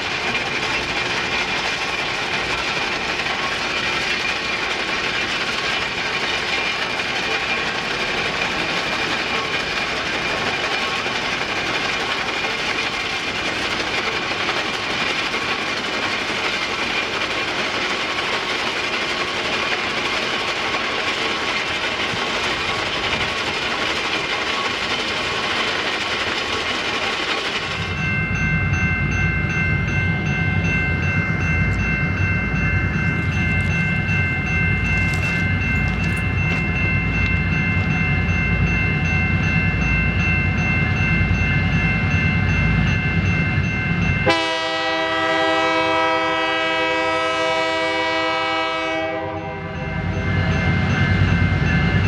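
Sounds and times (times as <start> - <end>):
train rolling on rails: 0.0 - 52.0.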